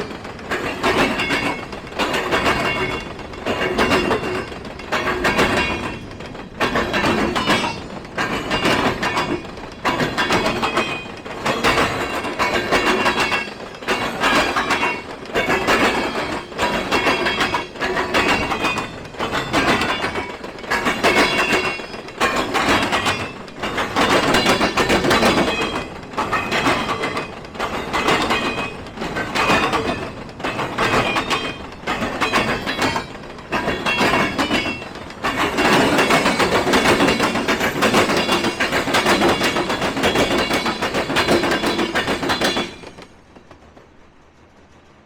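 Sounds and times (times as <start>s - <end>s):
freight train wheels clattering: 0.0s - 45.0s
high ringing from train wheels: 0.0s - 45.0s.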